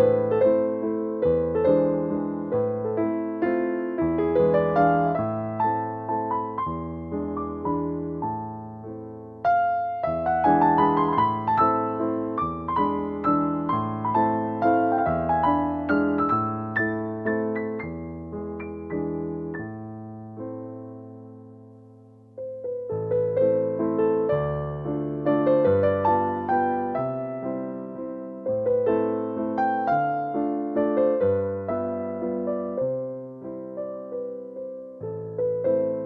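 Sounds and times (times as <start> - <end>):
solo piano piece: 0.0 - 36.0.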